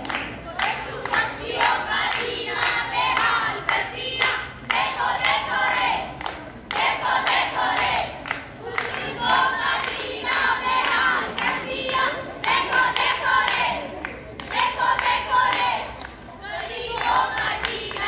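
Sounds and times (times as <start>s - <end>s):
rhythmic hand claps: 0.0s - 18.0s.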